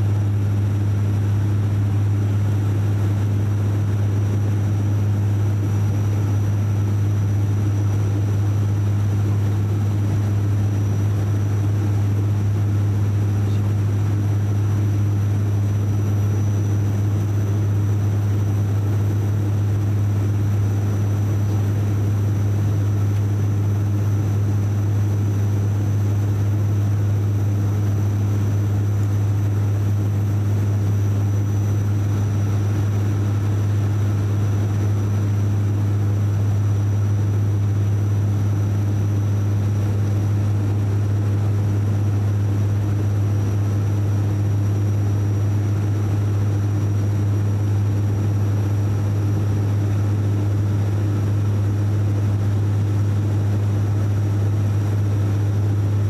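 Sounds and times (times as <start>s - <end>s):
deep propeller drone: 0.0s - 56.0s.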